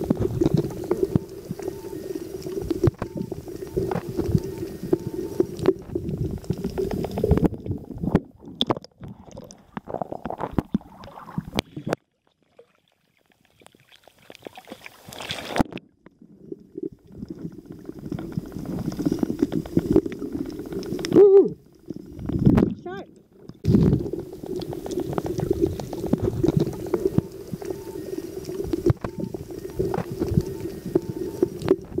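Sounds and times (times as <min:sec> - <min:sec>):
underwater water sloshing: 0:00.0 - 0:32.0.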